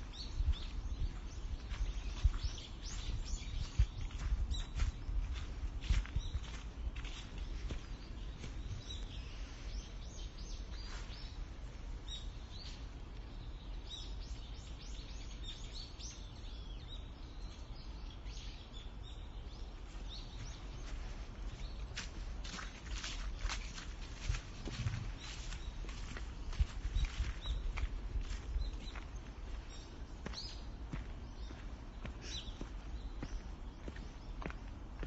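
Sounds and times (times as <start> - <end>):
steady low rumble: 0.0 - 18.1, 18.8 - 35.0
songbirds chirping: 0.0 - 35.0.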